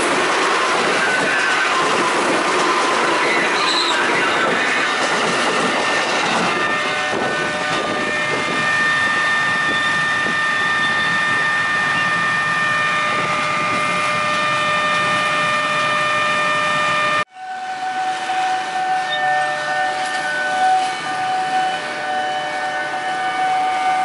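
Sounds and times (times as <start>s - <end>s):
train wheels on rails: 0.0s - 17.3s, 18.0s - 24.0s.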